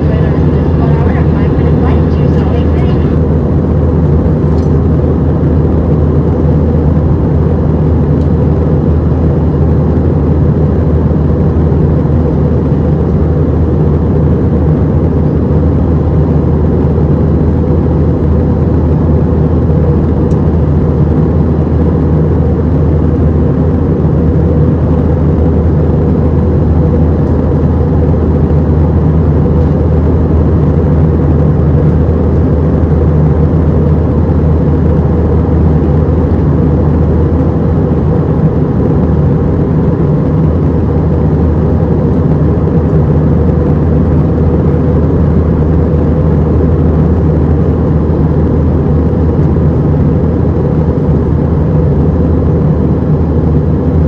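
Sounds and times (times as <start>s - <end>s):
jet engine drone in cabin: 0.0s - 54.0s.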